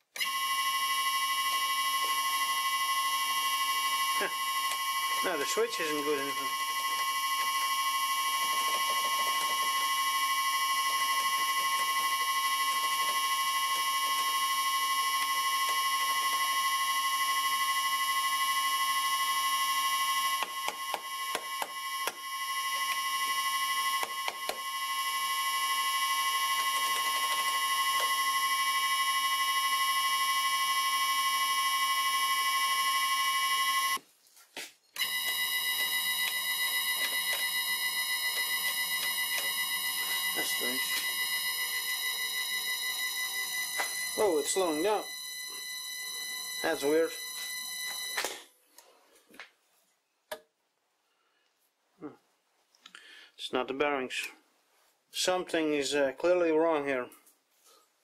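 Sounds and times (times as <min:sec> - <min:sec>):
electric motor whine: 0:00.2 - 0:34.0, 0:35.0 - 0:48.4.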